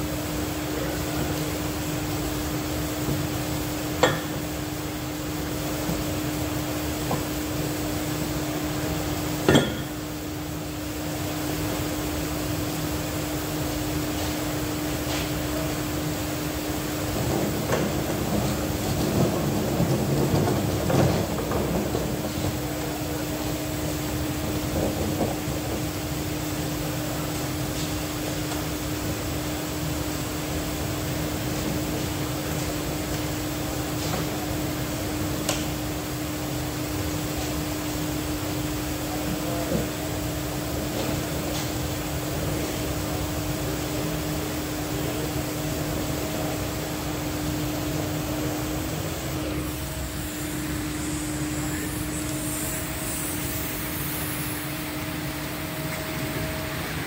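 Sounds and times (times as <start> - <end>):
steady workshop hum: 0.0 - 57.0.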